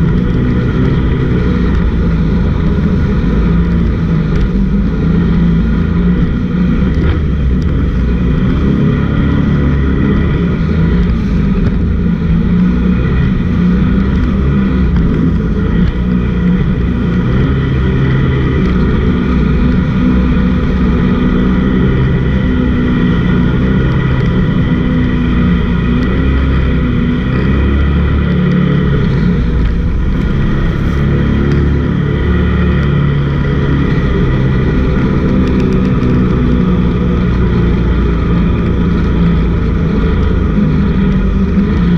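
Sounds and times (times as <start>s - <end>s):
boat engine running loud: 0.0s - 41.9s.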